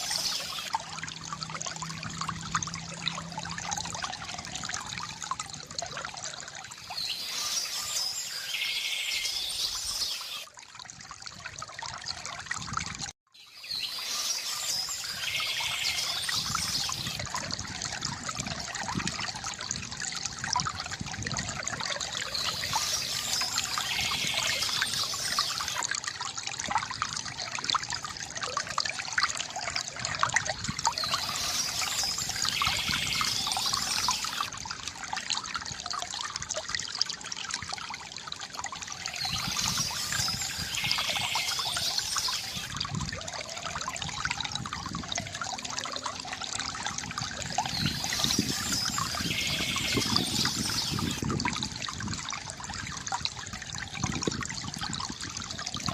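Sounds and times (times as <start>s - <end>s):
fountain water trickling: 0.0s - 55.9s.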